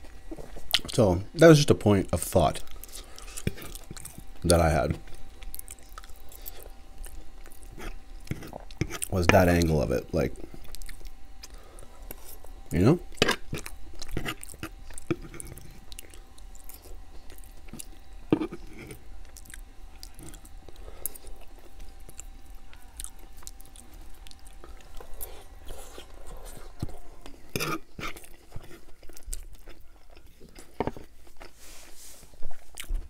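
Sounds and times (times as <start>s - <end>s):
man chewing: 0.0s - 1.0s, 2.6s - 9.2s, 10.3s - 33.0s.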